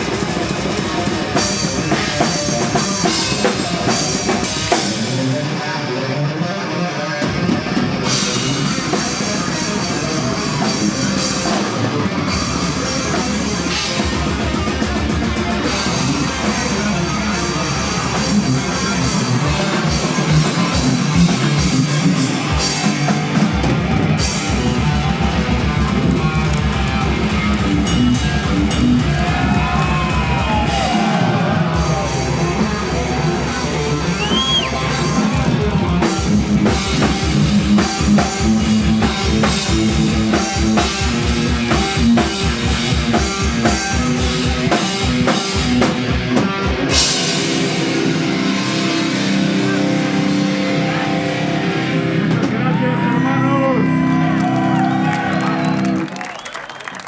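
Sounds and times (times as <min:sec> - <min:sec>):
rapid bass drum strokes: 0:00.0 - 0:05.4, 0:07.4 - 0:52.6
heavy metal band playing live: 0:00.0 - 0:56.1.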